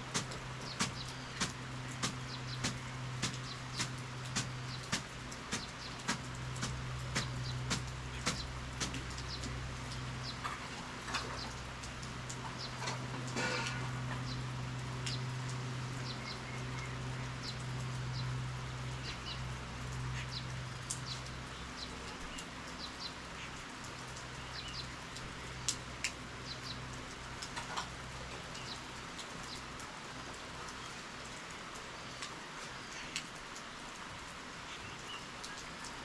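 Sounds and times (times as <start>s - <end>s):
low steady hum: 0.0s - 30.9s
drops ticking and dripping: 0.0s - 36.0s
steady rain falling: 0.0s - 36.0s.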